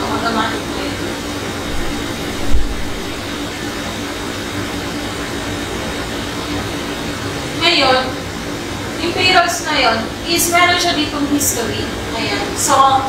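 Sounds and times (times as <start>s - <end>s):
fan rushing with faint hum: 0.0s - 13.0s.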